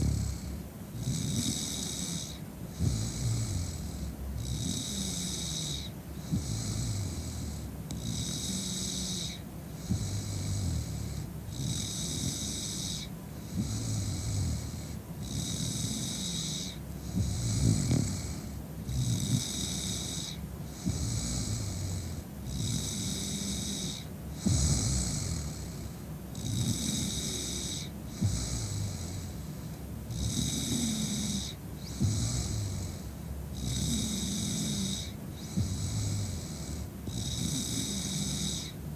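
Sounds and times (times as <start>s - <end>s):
woman snoring: 0.0s - 29.5s, 30.1s - 38.8s.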